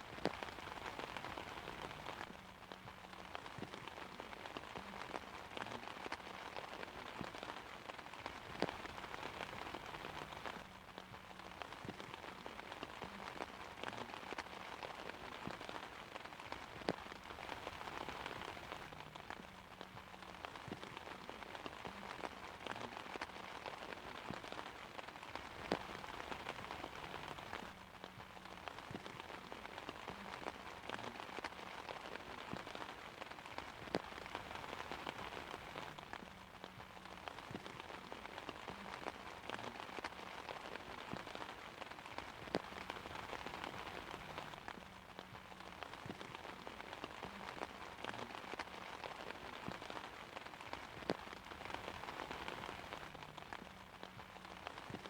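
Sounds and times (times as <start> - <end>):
rain pattering on an umbrella: 0.0 - 55.0.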